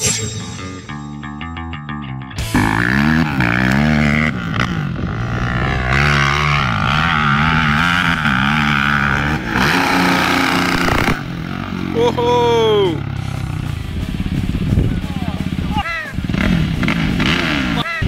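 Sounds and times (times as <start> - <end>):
quad engine revving: 2.4 - 18.0.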